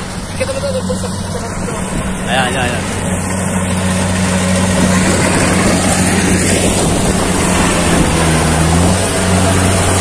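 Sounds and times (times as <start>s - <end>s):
combine harvester engine droning: 0.0s - 10.0s.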